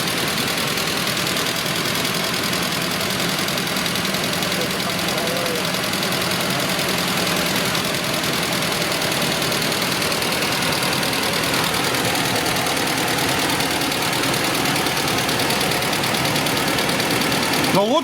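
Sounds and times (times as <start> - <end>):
fast ticking clatter: 0.0 - 18.0
petrol engine idling: 0.0 - 18.0.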